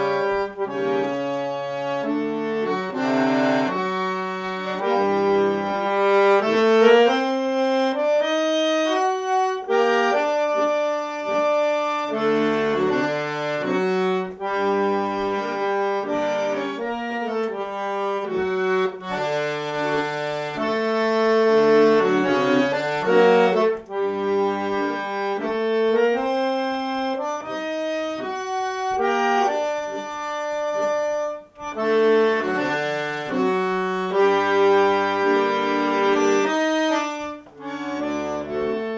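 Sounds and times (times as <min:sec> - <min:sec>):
solo accordion tune: 0:00.0 - 0:38.9.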